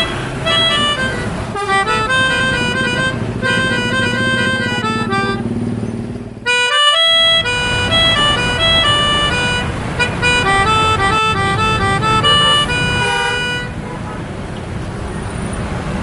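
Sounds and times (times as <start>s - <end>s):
musical air horn: 0.0s - 5.4s, 6.5s - 14.2s
bus engine running: 0.0s - 16.0s.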